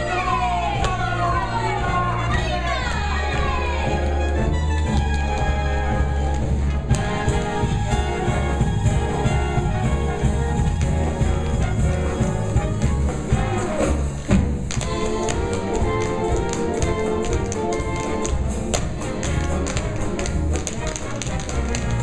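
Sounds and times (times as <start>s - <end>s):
band accompaniment: 0.0s - 22.0s
tap shoes striking stage floor: 0.1s - 22.0s.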